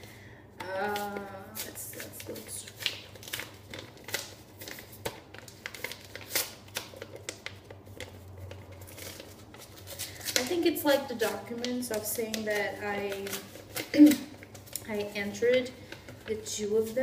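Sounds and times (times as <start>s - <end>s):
paper rustling and crinkling: 0.7s - 17.0s.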